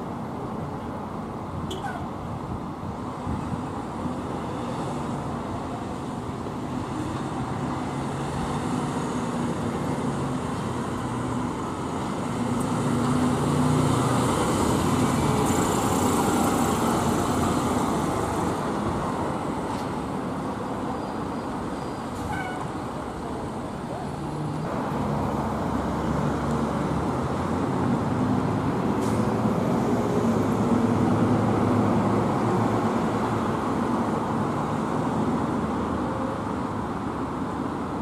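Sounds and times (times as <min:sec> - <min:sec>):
fire engine diesel engine: 0:00.0 - 0:38.0
road and traffic noise: 0:00.0 - 0:38.0.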